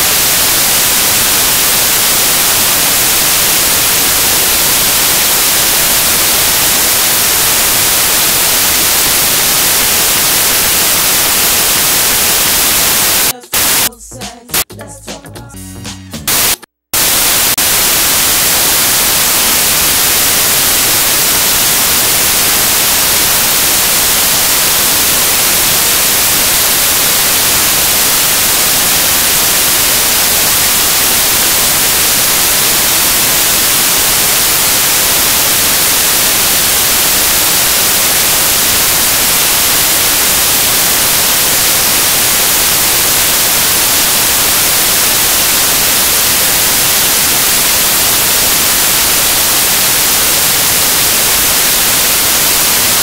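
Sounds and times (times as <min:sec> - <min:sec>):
white-noise static hiss: 0:00.0 - 0:13.9, 0:16.2 - 0:53.0.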